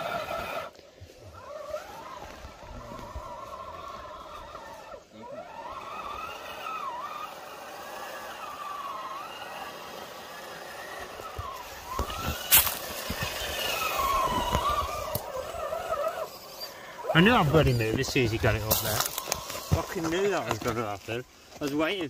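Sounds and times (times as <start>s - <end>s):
electric motor whining: 0.0s - 21.5s.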